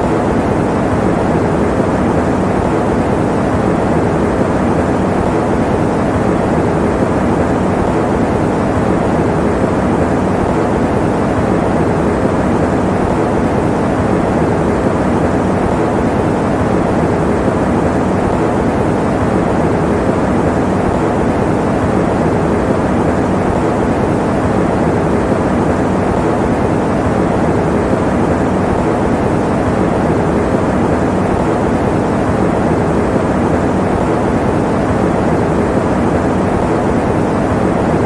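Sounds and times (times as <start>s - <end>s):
electric fan running: 0.0s - 38.0s.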